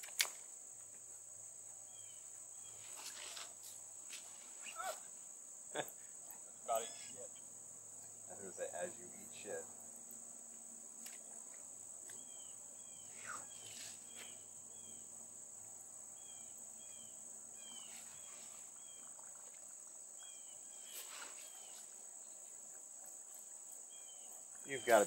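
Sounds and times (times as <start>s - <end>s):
insect chorus trill: 0.0s - 25.0s
short insect chirps: 0.0s - 25.0s.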